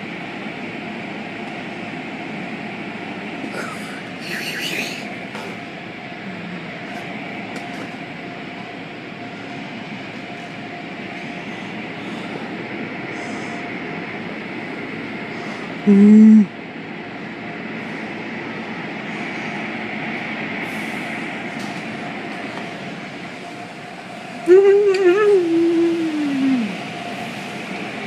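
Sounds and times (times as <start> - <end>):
faint steady whine: 0.0 - 28.0.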